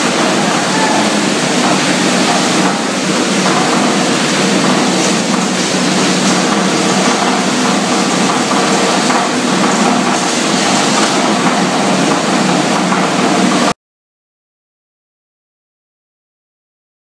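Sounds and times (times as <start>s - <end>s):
plastic shredding machinery drone: 0.0s - 13.7s.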